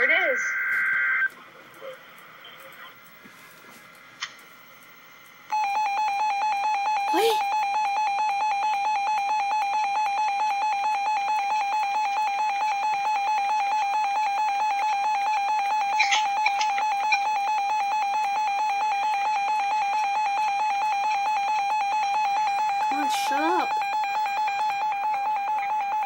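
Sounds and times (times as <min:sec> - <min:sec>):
steady pulsing alert tone: 0:04.6 - 0:26.0.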